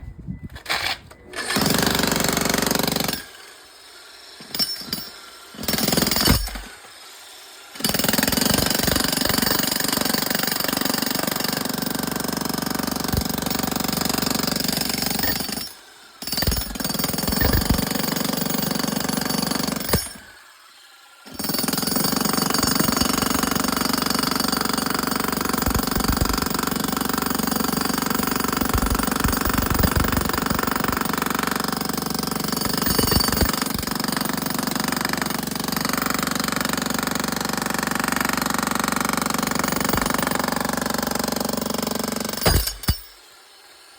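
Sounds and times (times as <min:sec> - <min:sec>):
jackhammer breaking concrete: 0:00.7 - 0:20.4, 0:21.2 - 0:43.3.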